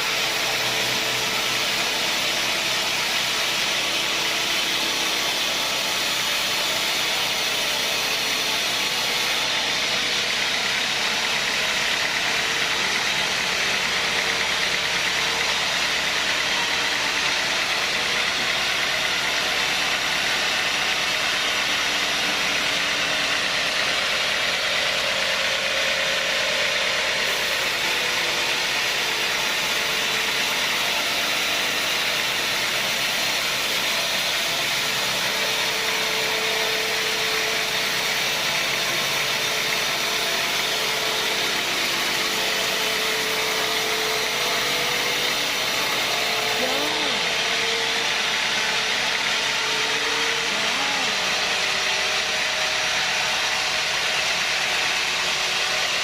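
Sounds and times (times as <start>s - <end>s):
log saw whirring: 0.0s - 56.0s.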